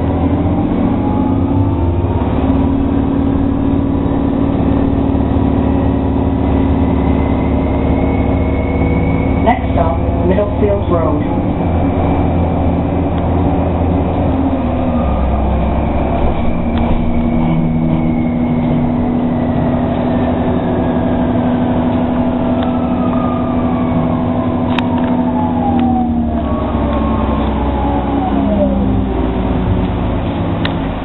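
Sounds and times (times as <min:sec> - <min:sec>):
bus drivetrain hum: 0:00.0 - 0:31.0.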